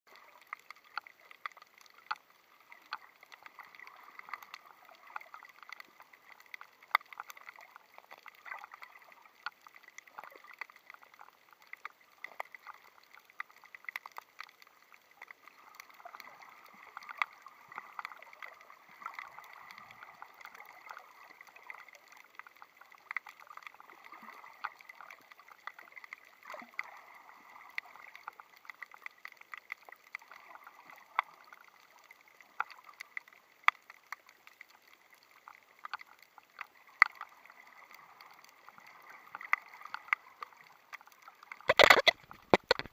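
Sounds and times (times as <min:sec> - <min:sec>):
reef clicks and crackles: 0:00.1 - 0:42.9.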